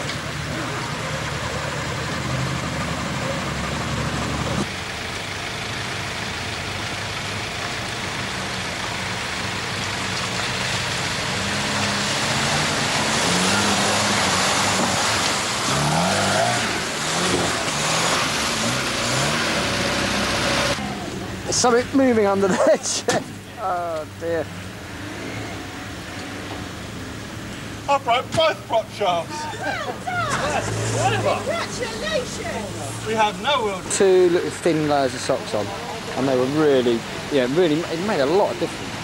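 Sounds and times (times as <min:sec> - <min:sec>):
off-road engine revving: 0:00.0 - 0:39.0
off-road engine running steadily: 0:00.0 - 0:39.0.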